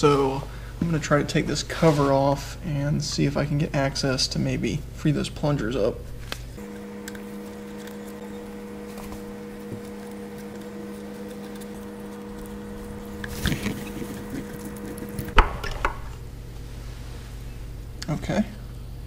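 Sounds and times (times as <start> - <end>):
steady hum of fixed tones: 0.0 - 19.0.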